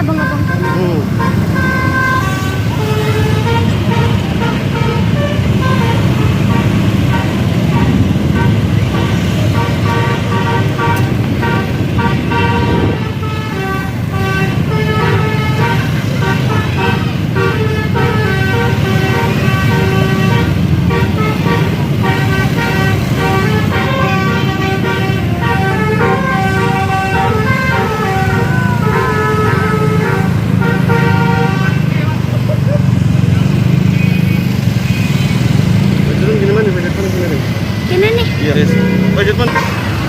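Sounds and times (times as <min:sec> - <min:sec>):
bus horn melody: 0:00.0 - 0:32.2
bus engine running: 0:00.0 - 0:40.0.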